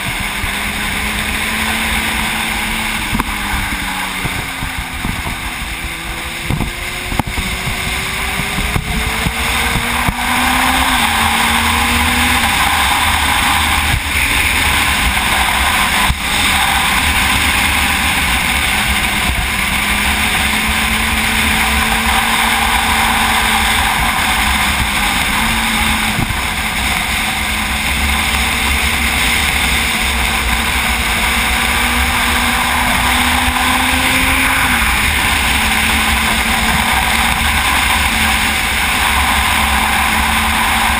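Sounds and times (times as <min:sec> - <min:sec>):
motorcycle engine changing gears: 0:00.0 - 0:40.9
wind rushing: 0:00.0 - 0:40.9.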